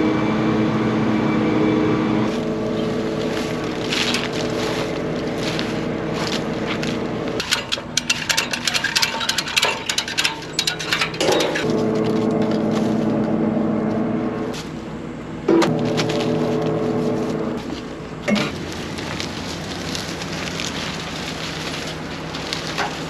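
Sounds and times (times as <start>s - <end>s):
machine engine humming: 0.0s - 23.0s.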